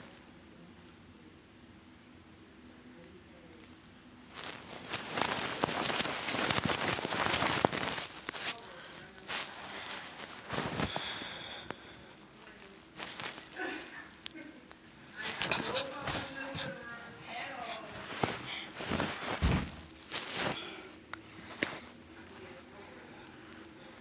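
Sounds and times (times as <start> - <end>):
phone rustling on carpet: 3.6 - 16.9, 17.8 - 24.0.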